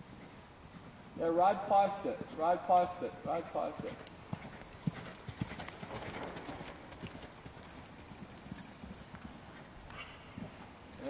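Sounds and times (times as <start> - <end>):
hoofbeats on soft ground: 0.0 - 11.0.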